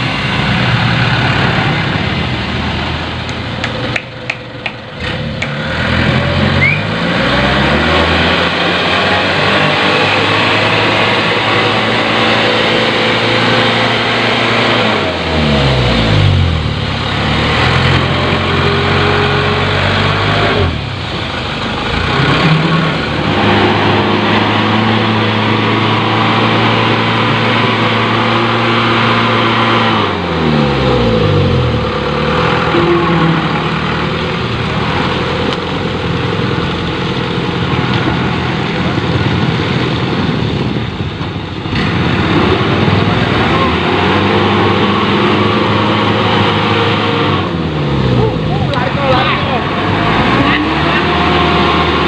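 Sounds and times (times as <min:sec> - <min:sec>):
diesel truck engine revving hard: 0:00.0 - 0:04.0, 0:04.9 - 0:52.0.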